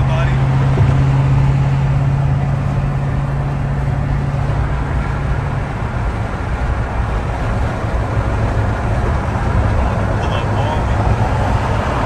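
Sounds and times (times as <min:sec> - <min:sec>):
car engine drone: 0:00.0 - 0:12.0
road rumble: 0:00.0 - 0:12.0.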